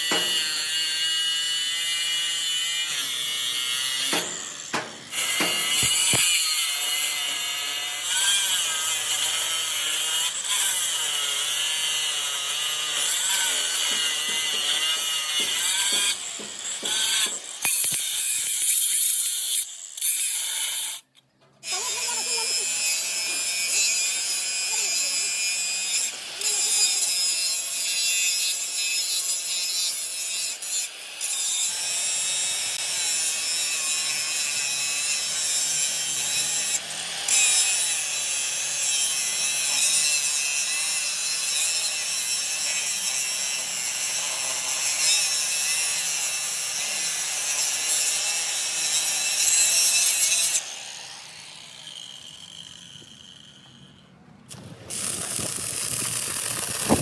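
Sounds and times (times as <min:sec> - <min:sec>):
power grinder grinding steel: 0:00.0 - 0:57.0.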